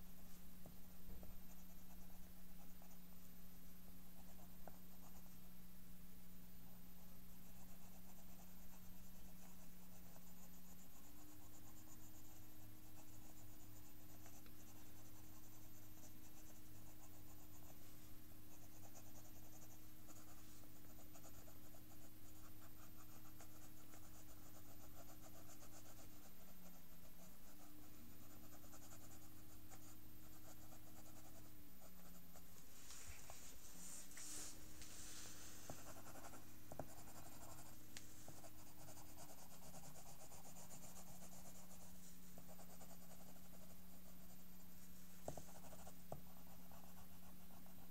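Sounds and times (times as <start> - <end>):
steady low hum: 0.0 - 47.9
pencil scratching on paper: 6.8 - 44.6, 45.2 - 47.9.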